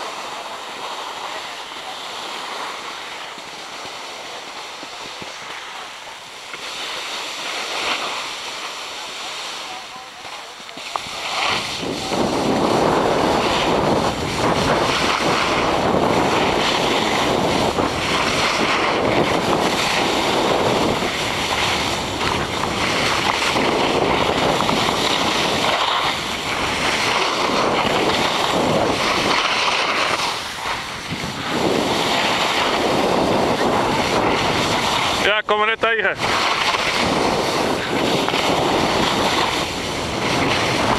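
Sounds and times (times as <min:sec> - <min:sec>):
skis scraping snow: 0:00.0 - 0:40.9
wind on microphone: 0:00.0 - 0:40.9.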